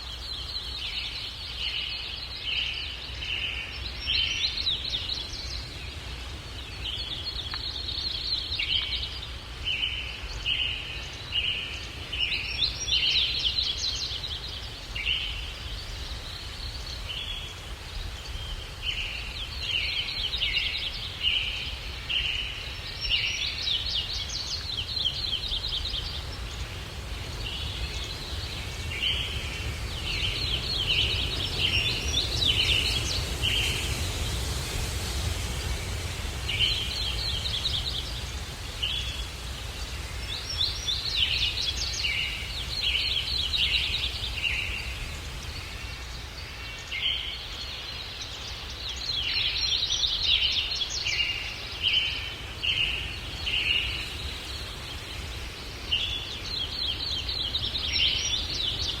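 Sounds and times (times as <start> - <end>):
breeze rumble: 0.0 - 59.0
songbirds chirping: 0.0 - 59.0.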